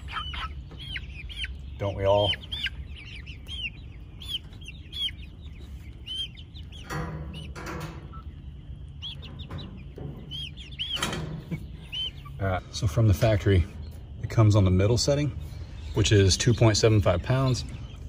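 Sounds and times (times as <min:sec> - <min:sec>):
chicks peeping: 0:00.0 - 0:18.0
harsh chicken calls: 0:00.0 - 0:18.0.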